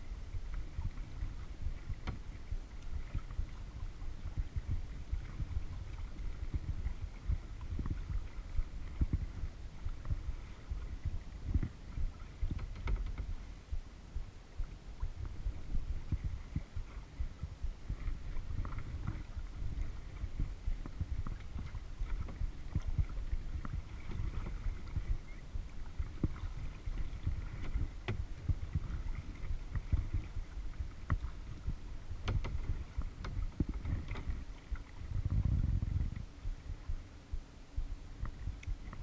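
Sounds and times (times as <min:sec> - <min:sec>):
water and wind rumble: 0:00.0 - 0:39.0
paddle and hull knocking: 0:00.4 - 0:13.5, 0:14.6 - 0:37.0.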